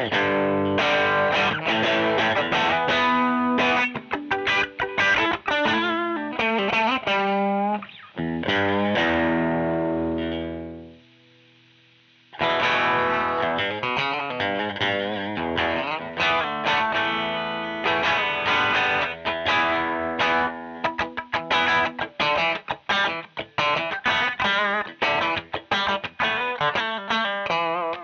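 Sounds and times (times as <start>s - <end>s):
distorted electric guitar: 0.0s - 28.0s.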